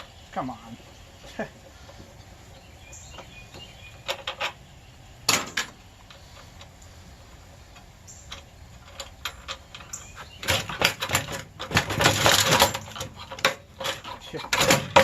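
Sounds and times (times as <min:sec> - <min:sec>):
metal clanking and rattling: 0:01.2 - 0:15.0.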